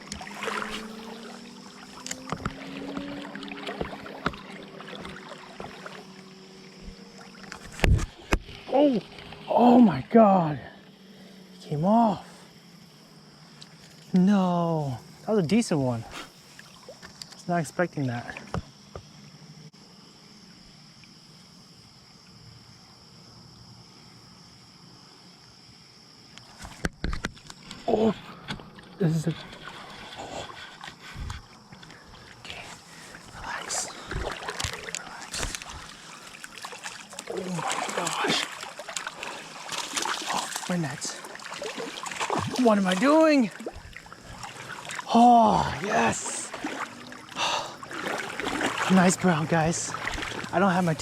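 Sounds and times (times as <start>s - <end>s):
creek water flowing: 0.0s - 18.9s, 27.6s - 51.0s
crickets trilling: 0.0s - 51.0s.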